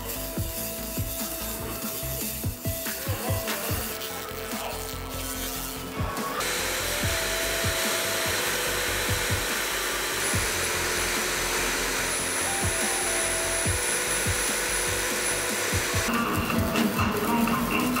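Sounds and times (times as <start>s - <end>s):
laser cleaning hiss: 0.0s - 18.0s.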